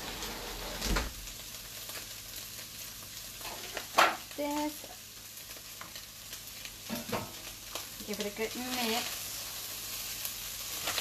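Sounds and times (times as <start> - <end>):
meat sizzling in frying pan: 0.0 - 11.0.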